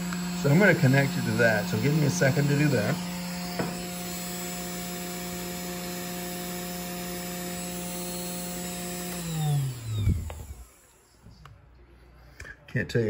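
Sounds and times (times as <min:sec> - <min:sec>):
spindle motor running and spinning down: 0:00.0 - 0:11.1.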